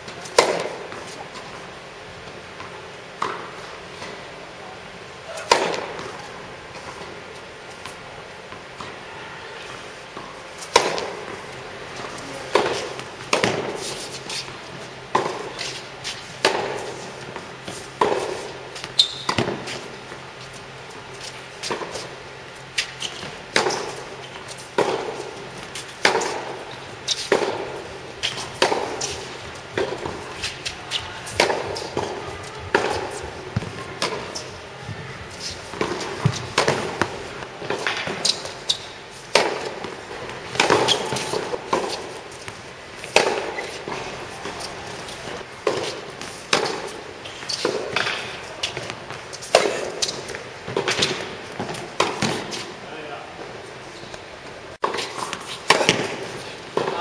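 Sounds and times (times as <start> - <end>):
tennis balls struck by rackets: 0.3 - 1.4, 5.3 - 8.9, 10.1 - 52.8, 54.1 - 57.0
tennis balls bouncing on hard court: 0.3 - 1.5, 2.6 - 4.2, 5.3 - 7.2, 10.1 - 52.7, 54.0 - 57.0.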